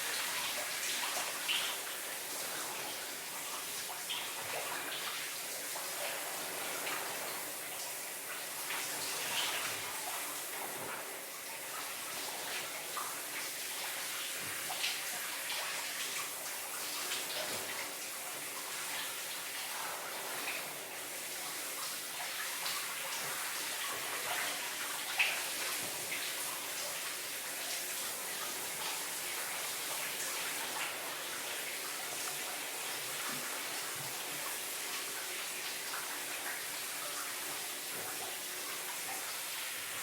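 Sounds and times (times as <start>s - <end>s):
shower water hissing: 0.0s - 40.0s.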